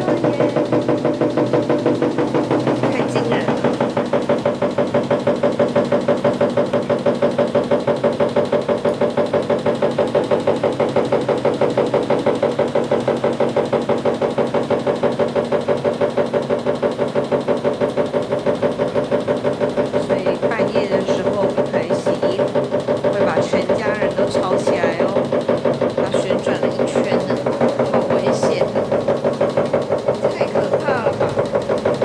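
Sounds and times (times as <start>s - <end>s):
washing machine spinning: 0.0s - 32.0s.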